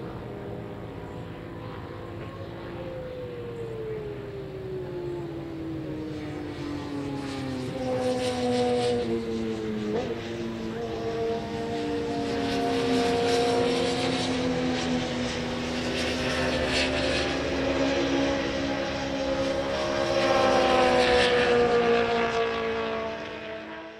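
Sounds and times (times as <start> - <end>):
racing motorcycle engines: 0.0 - 23.9.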